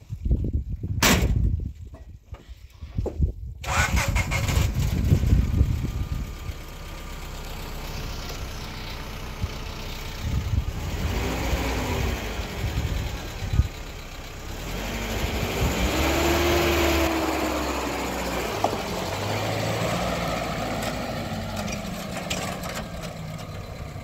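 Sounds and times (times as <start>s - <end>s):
vehicle engine starting and running: 3.6s - 24.0s.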